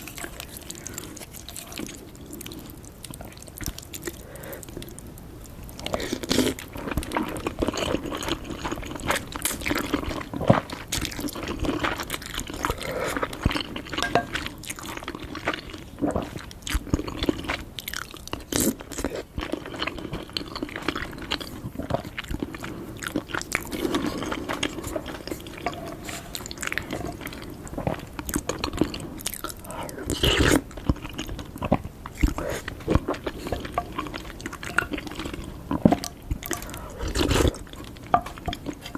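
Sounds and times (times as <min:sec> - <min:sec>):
wet chewing of noodles: 0:00.0 - 0:38.9.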